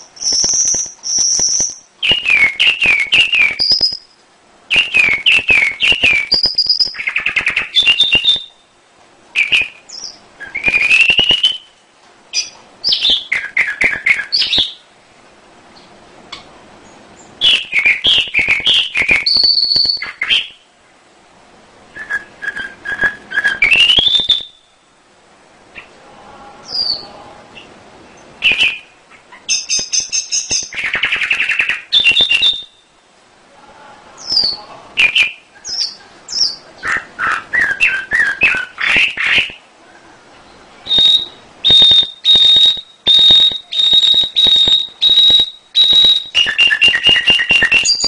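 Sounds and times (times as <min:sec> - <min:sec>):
canary singing trills: 0:00.0 - 0:08.8, 0:09.4 - 0:14.9, 0:15.8 - 0:20.7, 0:22.0 - 0:25.0, 0:25.7 - 0:33.0, 0:34.2 - 0:39.7, 0:40.4 - 0:48.0.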